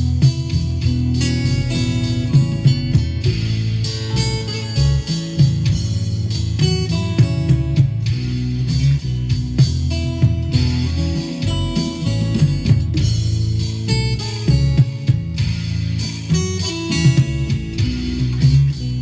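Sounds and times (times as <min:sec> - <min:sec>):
fingerstyle acoustic guitar: 0:00.0 - 0:19.0.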